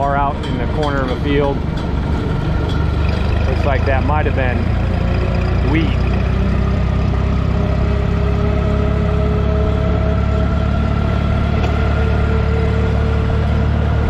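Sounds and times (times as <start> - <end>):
tractor engine drone: 0.0 - 14.0.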